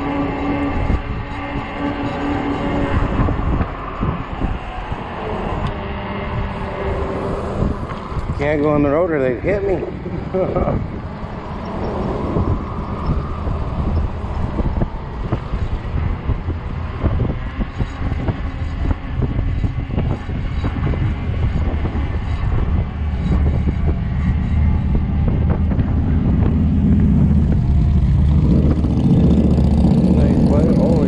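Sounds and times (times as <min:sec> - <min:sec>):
low drone: 0:00.0 - 0:31.0
wind buffeting microphone: 0:00.0 - 0:31.0.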